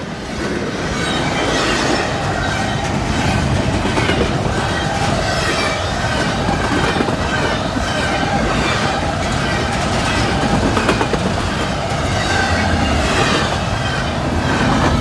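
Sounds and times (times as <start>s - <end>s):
freight train wheels on rail: 0.0s - 15.0s.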